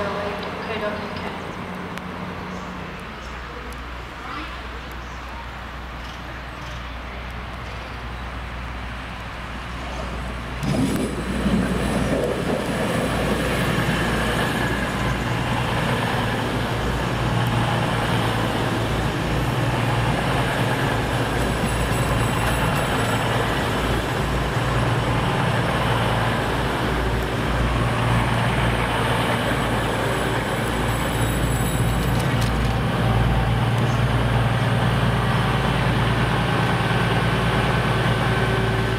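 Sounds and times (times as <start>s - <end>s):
diesel train engine rumbling: 0.0s - 38.9s.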